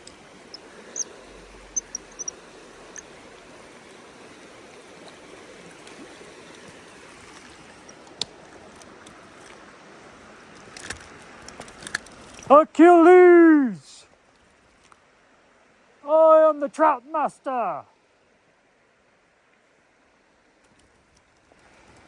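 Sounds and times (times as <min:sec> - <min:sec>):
river water over rocks: 0:00.0 - 0:22.0.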